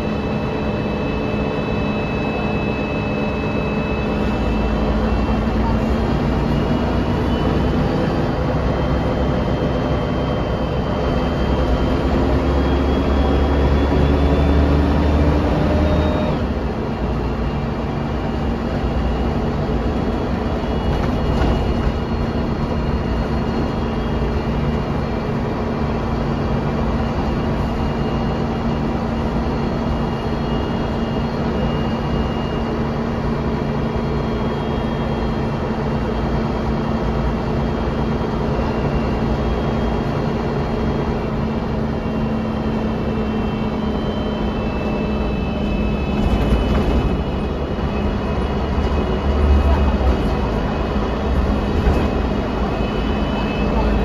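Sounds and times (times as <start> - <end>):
bus engine: 0.0 - 54.0.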